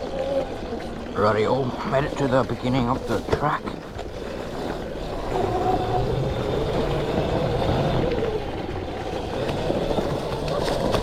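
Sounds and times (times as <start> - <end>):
electric motorbike motor whining: 0.0 - 11.0.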